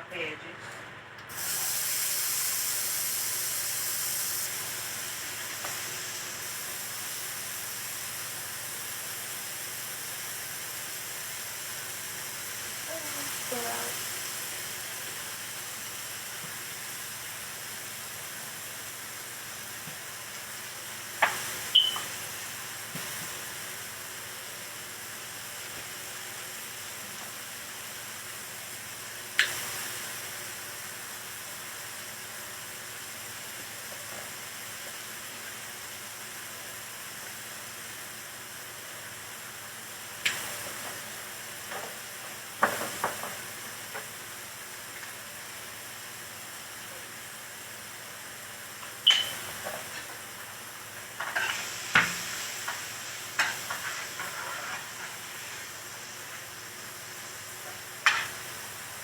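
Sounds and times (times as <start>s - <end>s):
food sizzling in a pan: 1.3s - 59.0s.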